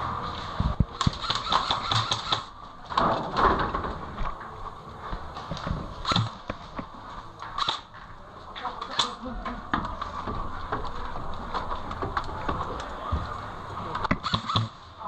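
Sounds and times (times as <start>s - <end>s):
footsteps: 0.0s - 14.1s.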